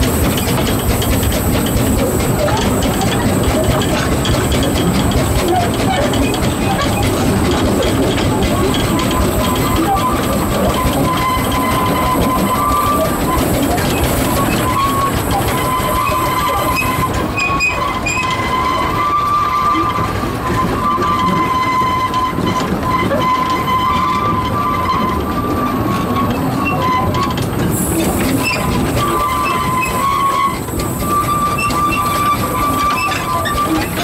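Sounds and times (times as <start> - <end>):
steam train rumble and rattle: 0.0 - 34.0
wheel flange squeal: 0.0 - 34.0.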